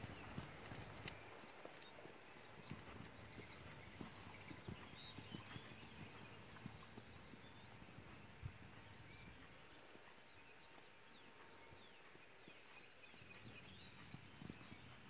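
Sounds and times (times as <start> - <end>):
horse hoofbeats on sand: 0.0 - 15.0.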